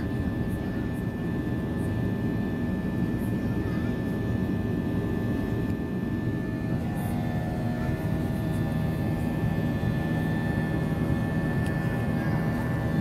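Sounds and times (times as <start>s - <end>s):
jet engine rumble: 0.0s - 13.0s
thin steady whine: 0.0s - 13.0s.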